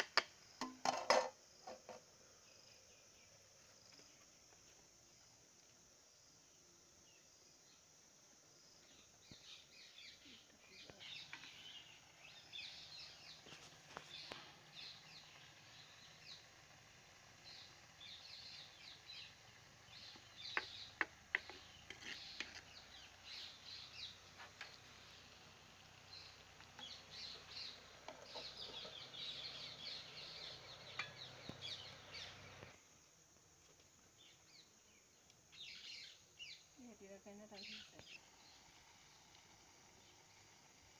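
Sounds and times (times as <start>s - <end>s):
birds chirping: 0.1s - 32.8s, 33.9s - 40.9s.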